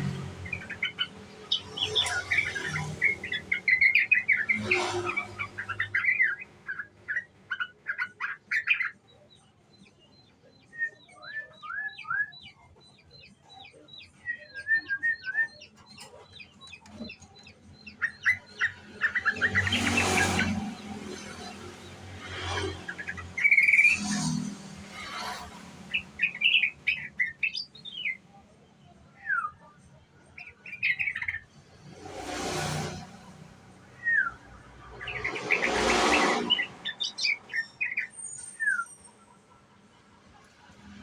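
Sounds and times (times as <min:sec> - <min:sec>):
bird chattering and twittering: 0:00.0 - 0:41.0.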